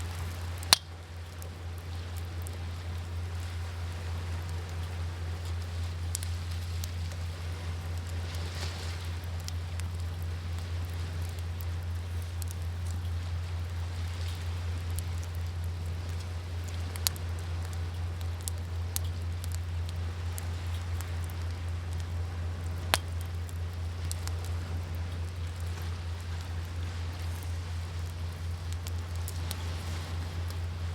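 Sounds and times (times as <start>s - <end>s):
steady low rumble: 0.0s - 30.9s
wood fire crackling and popping: 0.0s - 30.9s.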